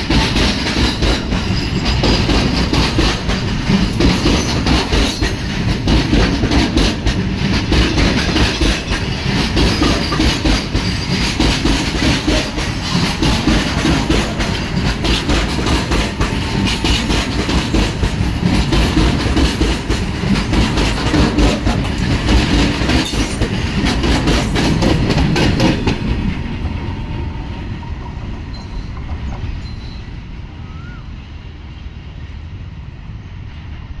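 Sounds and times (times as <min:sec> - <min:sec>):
train wheels clattering over rail joints: 0:00.0 - 0:30.1
freight train rumble: 0:00.0 - 0:34.0.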